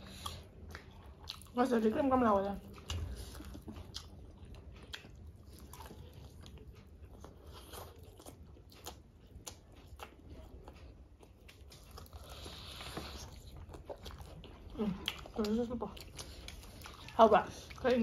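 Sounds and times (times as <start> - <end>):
people chewing crispy chicken: 0.0 - 18.0.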